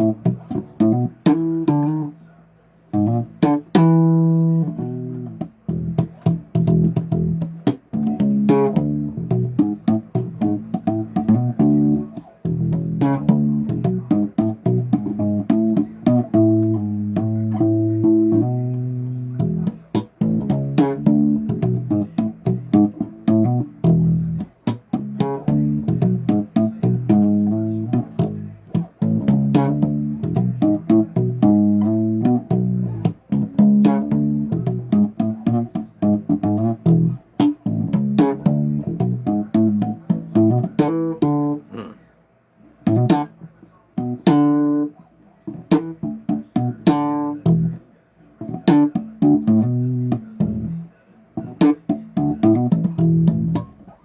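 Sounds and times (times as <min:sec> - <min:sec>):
bass guitar riffs: 0:00.0 - 0:02.2, 0:02.9 - 0:42.0, 0:42.8 - 0:43.4, 0:45.5 - 0:47.8, 0:48.4 - 0:50.8, 0:51.4 - 0:53.9.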